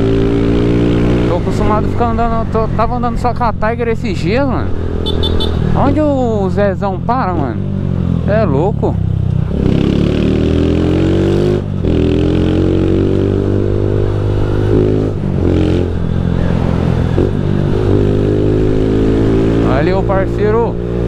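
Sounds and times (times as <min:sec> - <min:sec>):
motorcycle engine accelerating: 0:00.0 - 0:03.1, 0:04.3 - 0:21.0.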